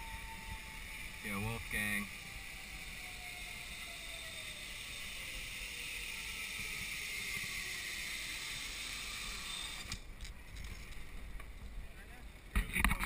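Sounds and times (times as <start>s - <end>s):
zipline trolley whirring on cable: 0.0s - 11.0s.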